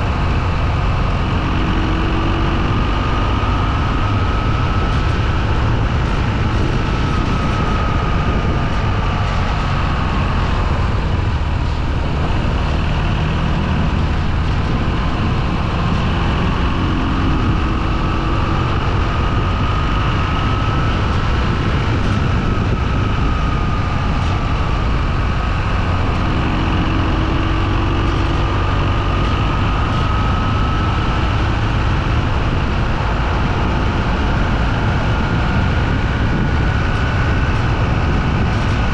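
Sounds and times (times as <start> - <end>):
faint whine: 0.0 - 38.9
motorcycle engine and road noise: 0.0 - 38.9.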